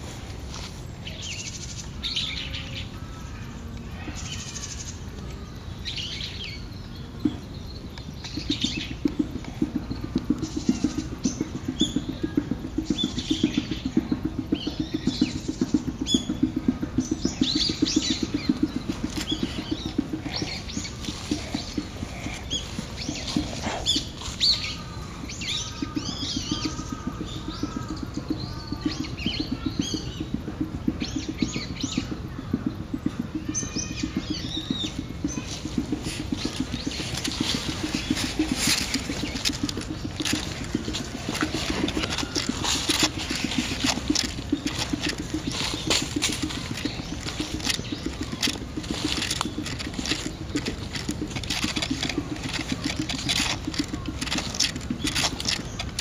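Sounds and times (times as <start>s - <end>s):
birds chirping and calling: 0.0s - 56.0s
rapidly pulsing low patter: 0.0s - 56.0s.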